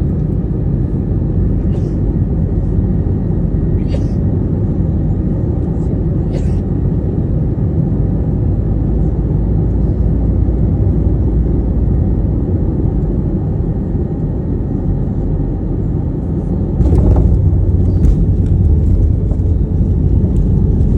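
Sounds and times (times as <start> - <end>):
airplane landing rumble: 0.0 - 20.9.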